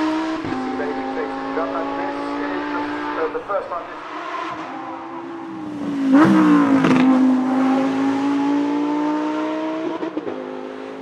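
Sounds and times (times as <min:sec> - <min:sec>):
sports car accelerating past: 0:00.0 - 0:11.0.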